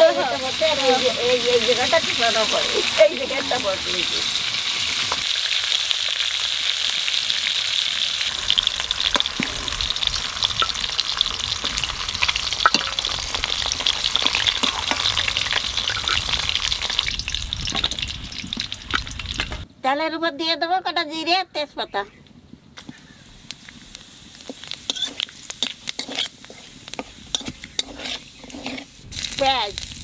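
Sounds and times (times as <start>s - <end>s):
fish sizzling in hot oil: 0.0s - 19.7s, 22.8s - 30.0s.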